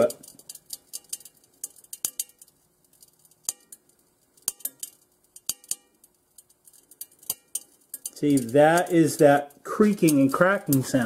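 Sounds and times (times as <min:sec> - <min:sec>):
cast iron skillet ticking as it cools: 0:00.0 - 0:11.0.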